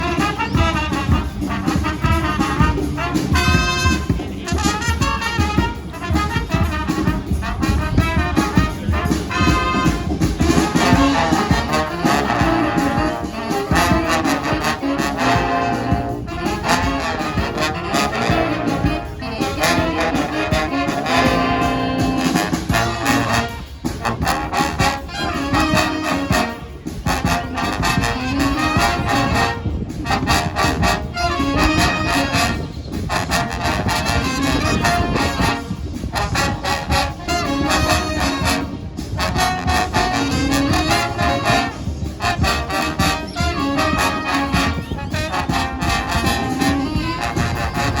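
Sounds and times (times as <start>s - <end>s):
brass band playing: 0.0s - 48.0s.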